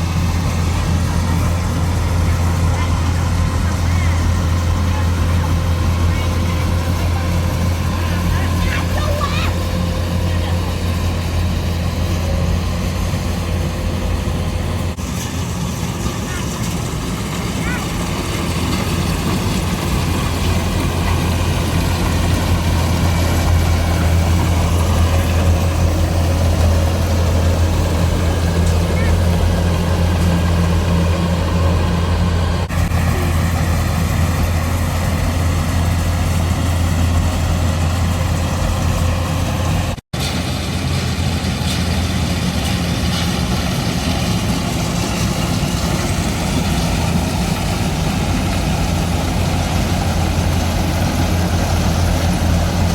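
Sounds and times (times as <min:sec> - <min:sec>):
combine harvester engine humming: 0:00.0 - 0:52.9
machinery noise: 0:00.0 - 0:52.9.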